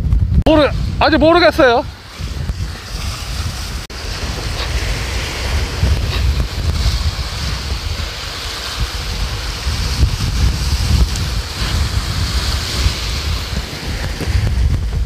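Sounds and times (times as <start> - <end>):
wind buffeting microphone: 0.0 - 15.0
waves breaking over rocks: 0.5 - 15.0.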